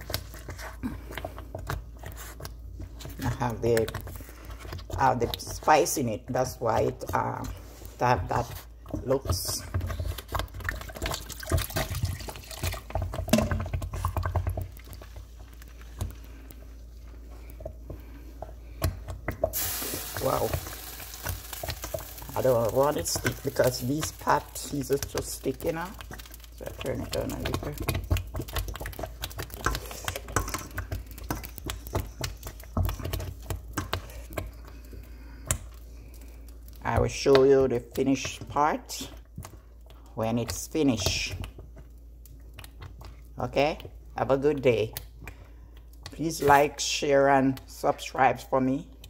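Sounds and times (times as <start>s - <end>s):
low steady hum: 0.0s - 49.0s
spoon stirring thick porridge: 0.0s - 49.0s.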